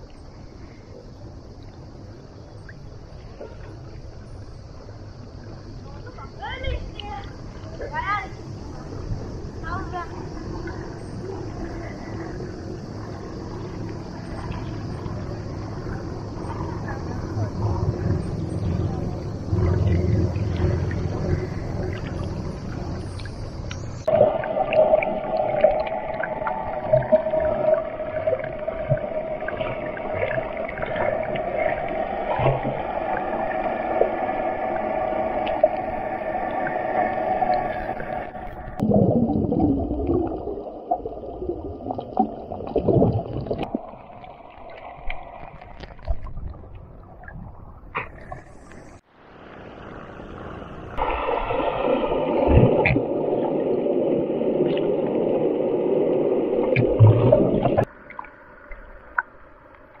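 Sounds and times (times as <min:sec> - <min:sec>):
muffled water gurgling: 0:00.0 - 1:00.0
underwater whine: 0:00.0 - 1:00.0.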